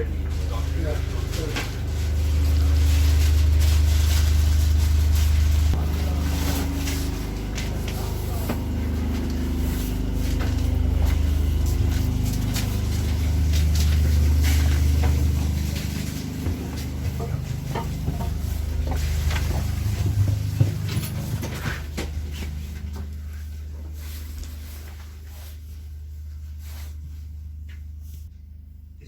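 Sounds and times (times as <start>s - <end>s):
faint hum: 0.0s - 29.0s
locomotive rumble: 0.0s - 29.0s.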